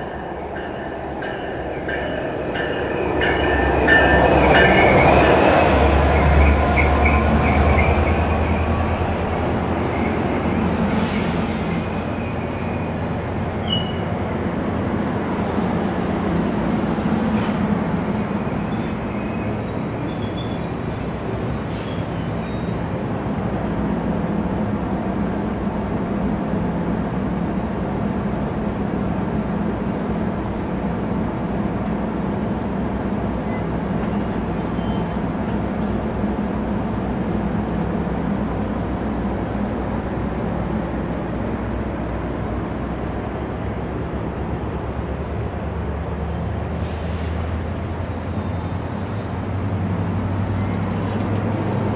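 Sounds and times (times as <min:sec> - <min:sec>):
train equipment rumble and hum: 0:00.0 - 0:51.9.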